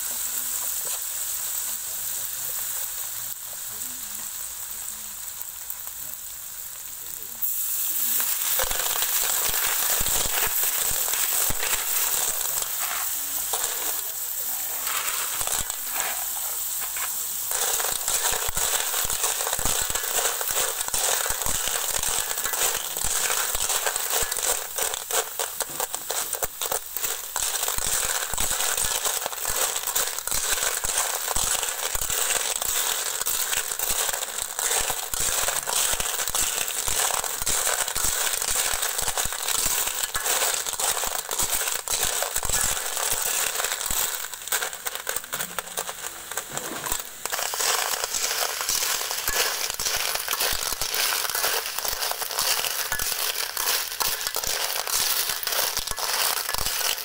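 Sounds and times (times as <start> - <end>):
cockles sizzling in a wok: 0.0 - 57.0
shells clattering in a pan: 7.4 - 57.0.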